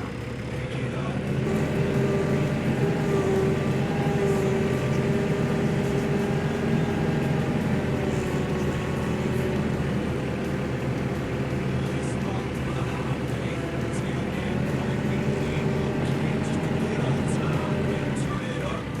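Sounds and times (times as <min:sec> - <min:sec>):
electric chainsaw running: 0:01.4 - 0:18.8.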